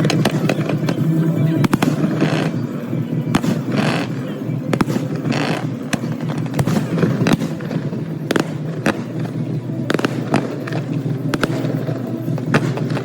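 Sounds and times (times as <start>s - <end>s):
fireworks bangs and cracks: 0.0s - 13.0s
fireworks crackling hiss: 0.0s - 13.0s.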